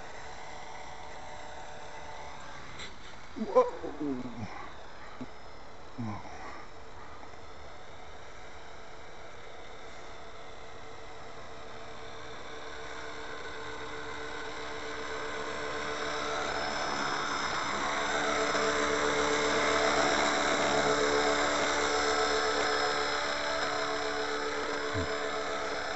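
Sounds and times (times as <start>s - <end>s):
model helicopter rotor whirring: 0.0s - 25.9s.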